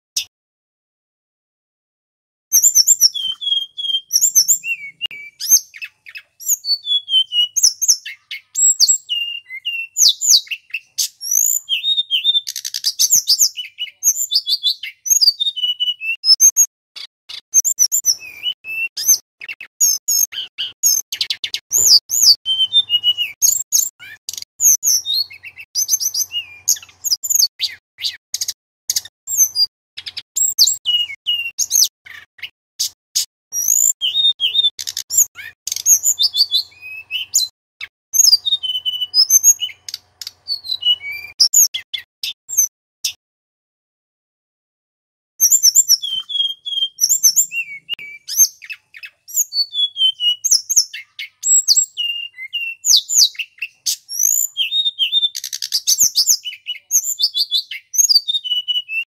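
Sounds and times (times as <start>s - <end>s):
bird singing whistled trills: 2.5s - 16.7s, 17.3s - 32.9s, 33.5s - 37.5s, 38.2s - 43.2s, 45.4s - 59.0s.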